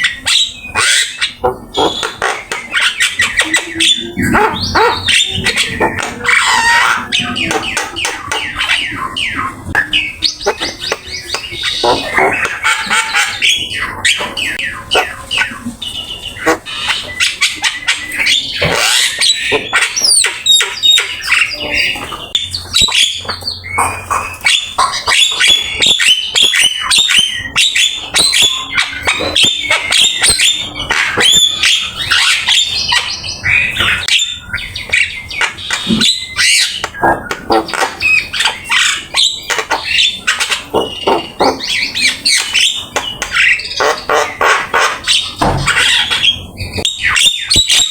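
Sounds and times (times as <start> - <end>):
myna singing and chattering: 0.0 - 47.9.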